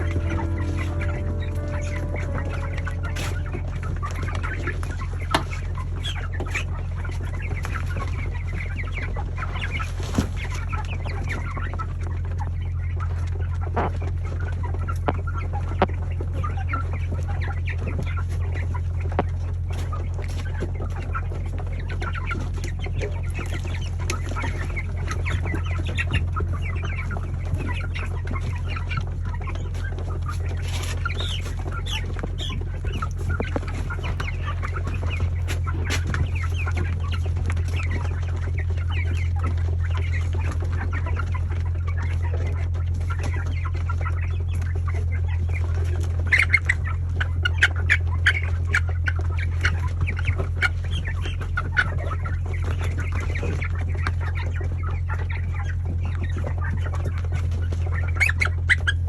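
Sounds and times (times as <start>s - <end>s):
chickens peeping and clucking: 0.0s - 59.0s
steady low hum: 0.0s - 59.0s.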